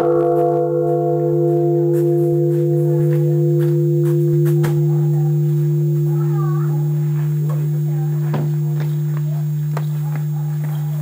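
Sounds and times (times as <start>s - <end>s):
temple bell ringing: 0.0s - 11.0s.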